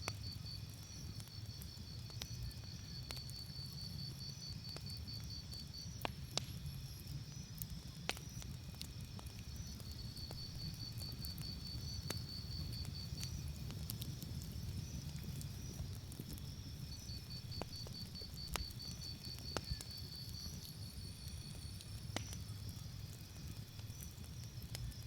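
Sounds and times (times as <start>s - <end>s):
campfire crackling and popping: 0.0s - 25.0s
cricket chirping: 0.0s - 25.0s.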